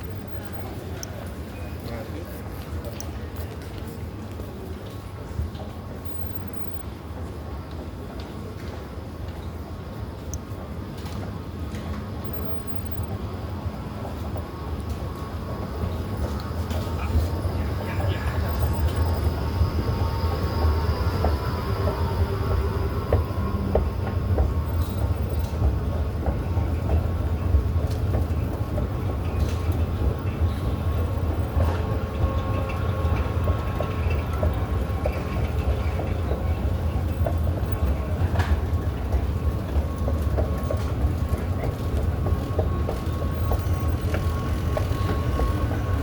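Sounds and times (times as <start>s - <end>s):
metro train rumbling and whining: 0.0s - 46.0s.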